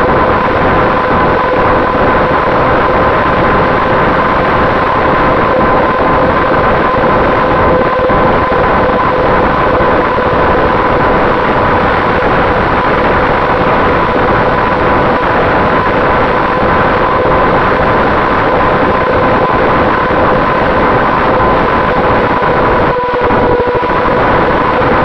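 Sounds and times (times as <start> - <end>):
electric motor and propeller whine: 0.0 - 25.0
wind rushing: 0.0 - 25.0.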